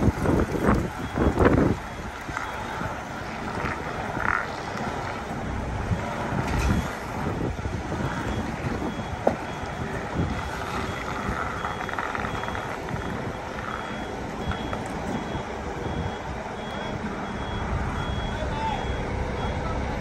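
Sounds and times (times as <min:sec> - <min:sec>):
reversing alarm beeping: 0:00.0 - 0:05.3, 0:06.6 - 0:20.0
diesel engine rumble: 0:00.0 - 0:20.0.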